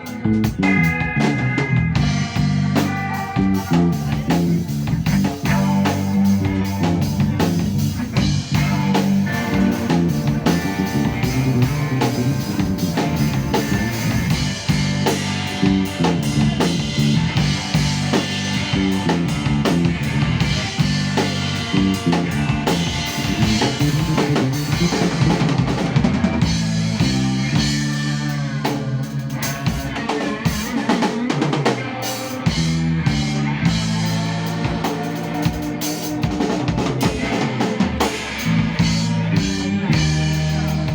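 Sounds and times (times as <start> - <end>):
bass guitar line: 0.0 - 40.9
drum kit with snare and rimshots: 0.0 - 40.9
live band music: 0.0 - 40.9.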